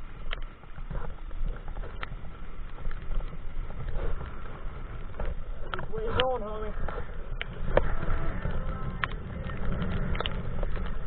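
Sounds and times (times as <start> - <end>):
road rumble: 0.0 - 11.0
wind on microphone: 0.0 - 11.0.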